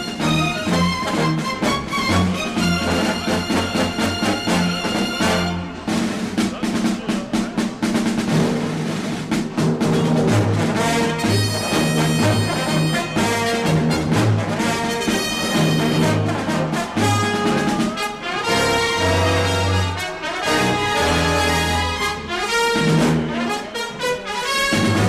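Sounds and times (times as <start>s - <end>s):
soundtrack music with brass and drums: 0.0s - 25.0s.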